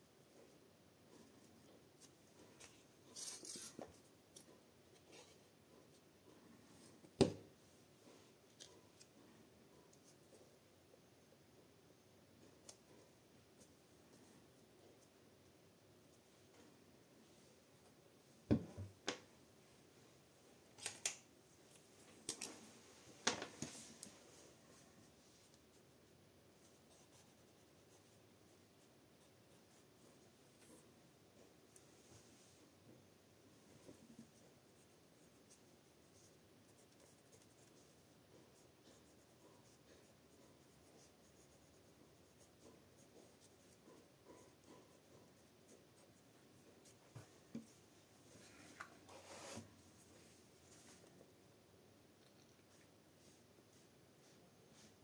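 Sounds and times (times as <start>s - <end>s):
faint room hiss: 0.0s - 55.0s.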